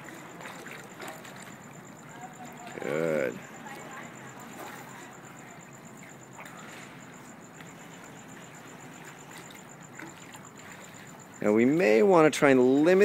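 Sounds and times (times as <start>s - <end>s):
faint splashing: 0.0s - 13.0s
indoor pool background hiss: 0.0s - 13.0s.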